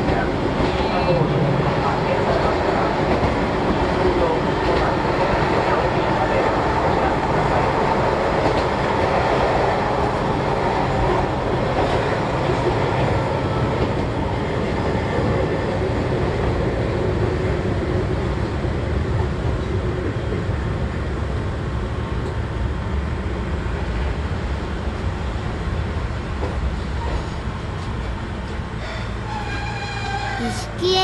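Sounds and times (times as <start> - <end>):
train wheels and motors rumbling: 0.0 - 31.0.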